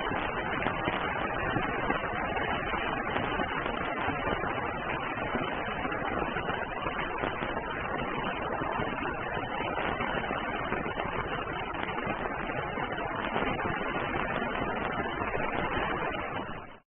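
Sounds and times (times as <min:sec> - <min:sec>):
rain on an umbrella: 0:00.0 - 0:16.8.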